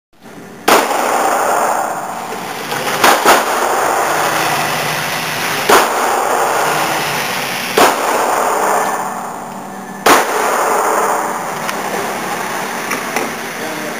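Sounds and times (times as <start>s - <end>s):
loud steady noise: 0.2s - 13.9s
gunshots echoing indoors: 0.6s - 13.2s.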